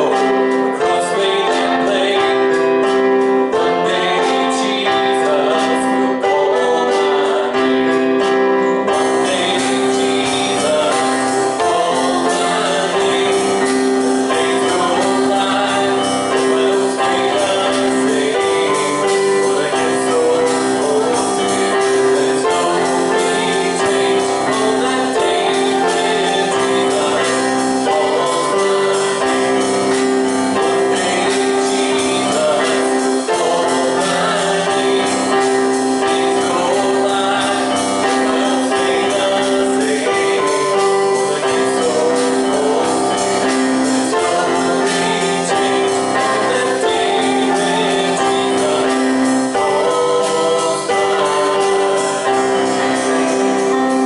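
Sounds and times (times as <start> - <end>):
band playing held chords: 0.0 - 54.0
people singing: 0.0 - 54.0.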